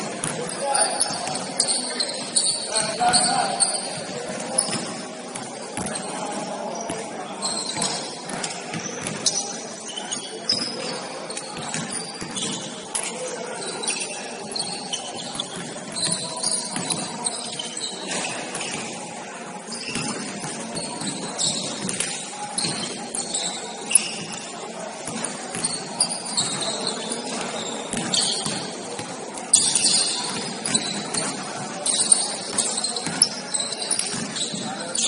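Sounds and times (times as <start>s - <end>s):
sneakers squeaking on hardwood: 0.0s - 19.0s, 19.6s - 35.0s.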